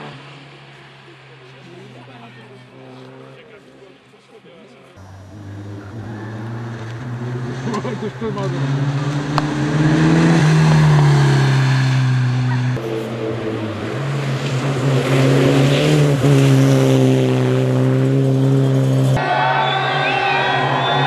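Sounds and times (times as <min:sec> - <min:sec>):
rally car engine at high revs: 0:00.0 - 0:03.8, 0:05.0 - 0:19.2.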